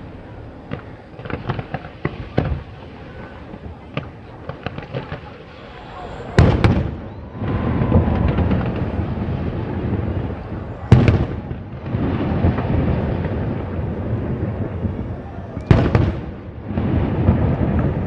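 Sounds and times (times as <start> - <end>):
crackling firework pops: 0.6 - 18.0.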